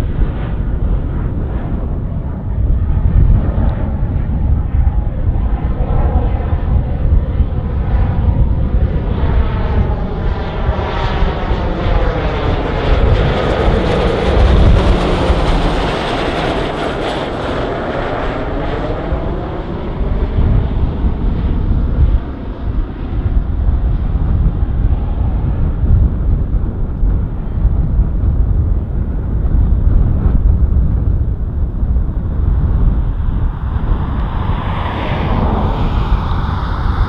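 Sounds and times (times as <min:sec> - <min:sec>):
high turbine whine: 0:00.0 - 0:37.0
turboprop plane flying overhead: 0:00.0 - 0:37.0.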